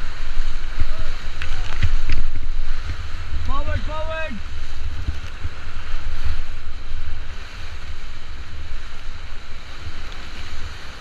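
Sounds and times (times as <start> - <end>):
whitewater rushing: 0.0 - 11.0
wind buffeting microphone: 0.0 - 11.0.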